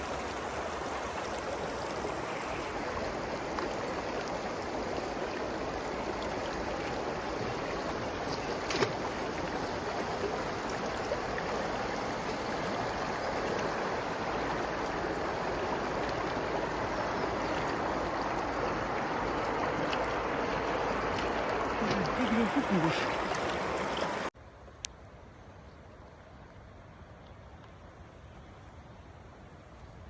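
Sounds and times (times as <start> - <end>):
stream water rushing: 0.0 - 24.3.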